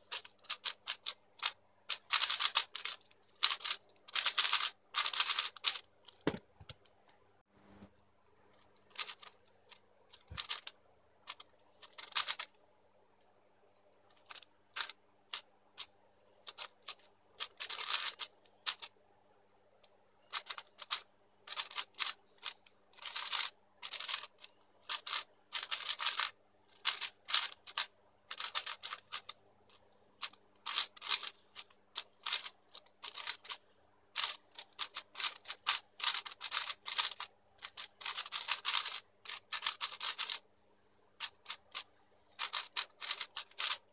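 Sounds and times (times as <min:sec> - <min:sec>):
plastic clacking of puzzle cube: 0:00.1 - 0:07.0, 0:08.8 - 0:12.6, 0:14.1 - 0:18.9, 0:19.8 - 0:40.4, 0:41.2 - 0:43.9.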